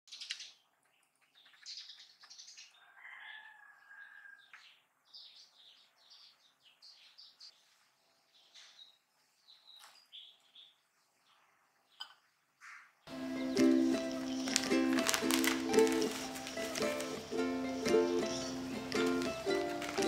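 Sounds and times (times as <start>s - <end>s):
faint birdsong chirps and trills: 0.1s - 20.0s.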